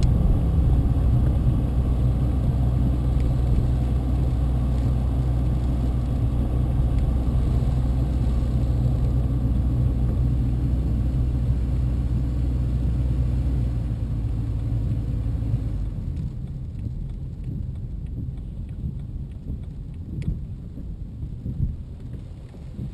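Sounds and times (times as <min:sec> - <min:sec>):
road and drivetrain rumble: 0:00.0 - 0:22.9.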